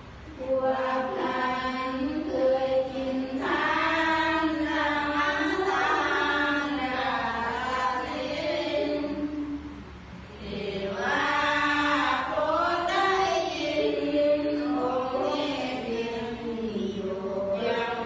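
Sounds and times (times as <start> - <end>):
voices chanting together: 0.0 - 18.0.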